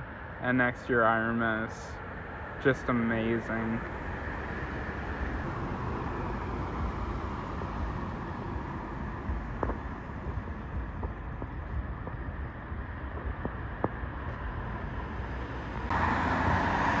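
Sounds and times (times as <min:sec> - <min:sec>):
outdoor rumble: 0:03.4 - 0:17.0.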